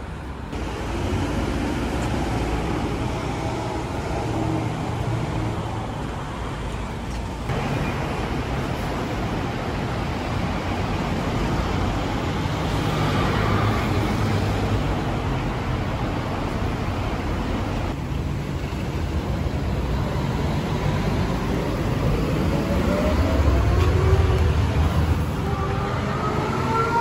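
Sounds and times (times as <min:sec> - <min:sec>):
low rumble of passing vehicles: 0:00.0 - 0:27.0.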